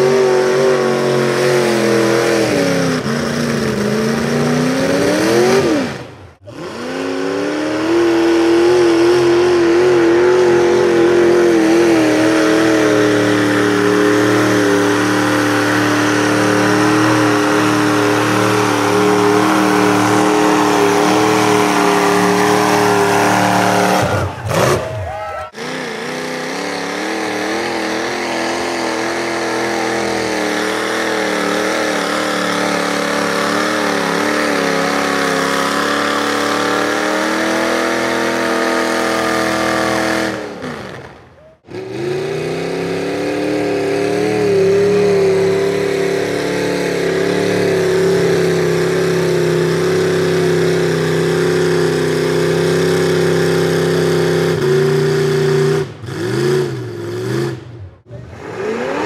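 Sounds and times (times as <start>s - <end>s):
truck engines revving high: 0.0s - 59.0s.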